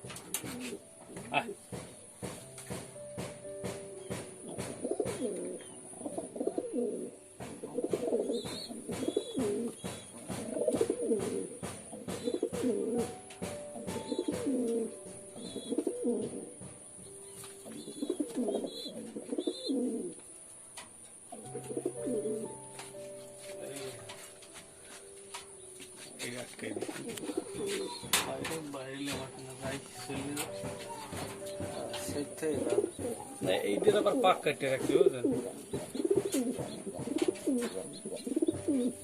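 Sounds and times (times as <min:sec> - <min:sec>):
pigeons cooing: 0:00.0 - 0:01.7, 0:04.0 - 0:24.3, 0:25.4 - 0:39.0.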